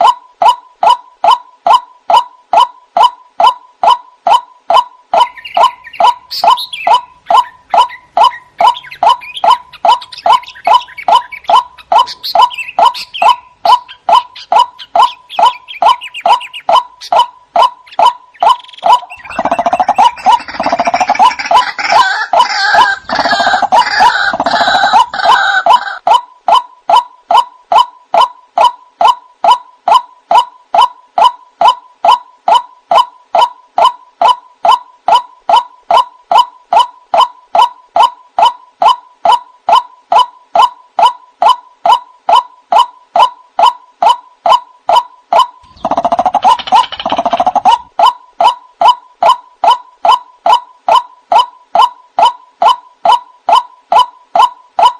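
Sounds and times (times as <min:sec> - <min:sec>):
waterhen calling: 0:00.0 - 0:54.9.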